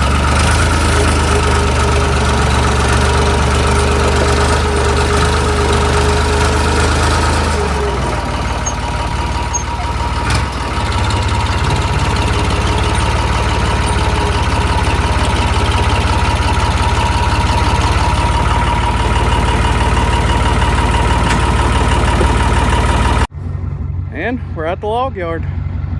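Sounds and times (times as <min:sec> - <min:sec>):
bulldozer engine running: 0:00.0 - 0:25.9.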